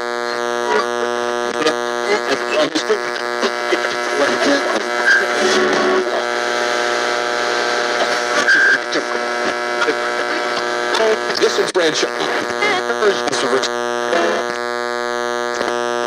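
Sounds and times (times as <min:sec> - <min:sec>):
electrical buzz: 0:00.0 - 0:16.0.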